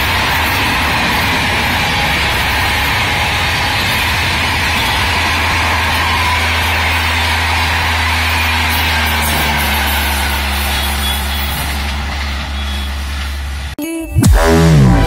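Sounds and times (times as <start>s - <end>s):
train wheels on rail: 0.0s - 13.8s
diesel locomotive engine hum: 0.0s - 15.0s.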